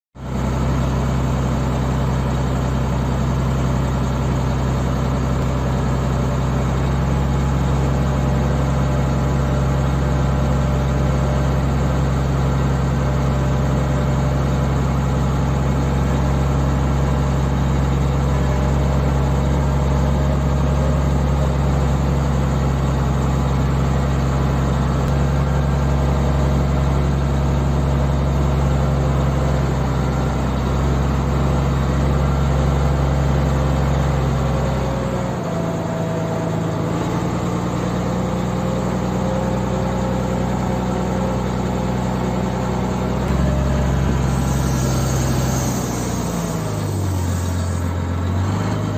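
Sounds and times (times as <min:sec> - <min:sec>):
diesel engine running steadily: 0:00.2 - 0:48.9.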